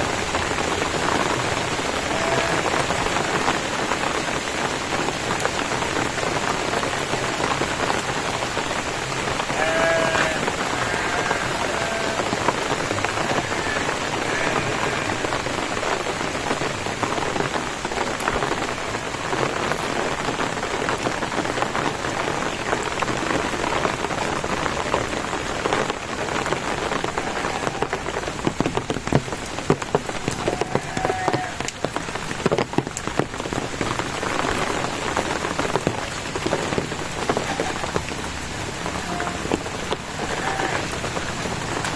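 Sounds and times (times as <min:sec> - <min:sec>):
steady rain: 0:00.0 - 0:41.9.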